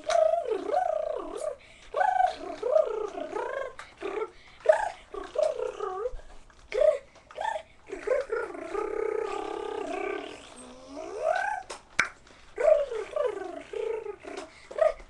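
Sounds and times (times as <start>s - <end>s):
boy imitating electric guitar: 0.0s - 11.7s, 12.6s - 15.0s.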